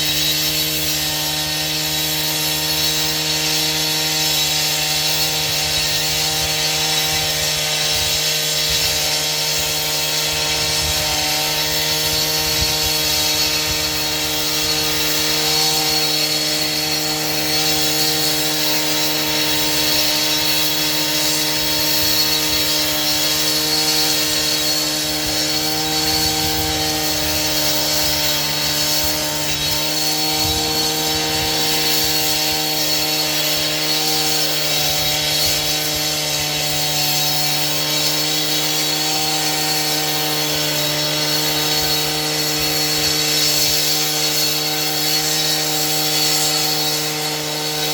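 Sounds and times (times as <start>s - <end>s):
power saw cutting: 0.0s - 47.9s.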